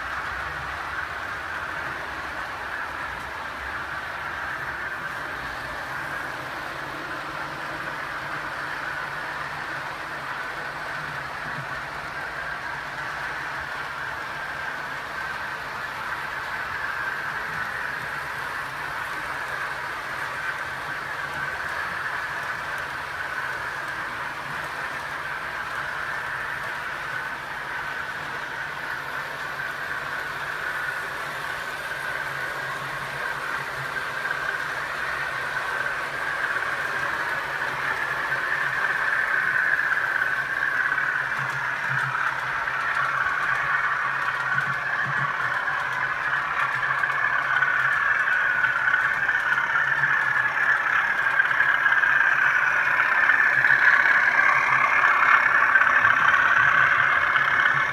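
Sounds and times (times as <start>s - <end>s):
model train whirring on rails: 0.0s - 57.9s.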